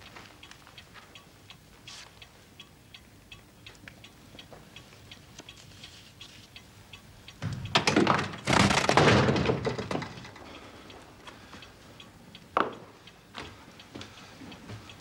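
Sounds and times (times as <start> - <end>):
clock ticking: 0.0 - 9.0, 9.7 - 15.0.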